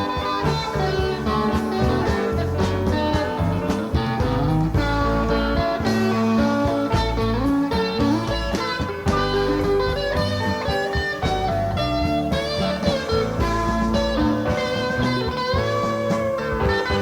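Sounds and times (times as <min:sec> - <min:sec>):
blues-rock guitar music: 0:00.0 - 0:17.0.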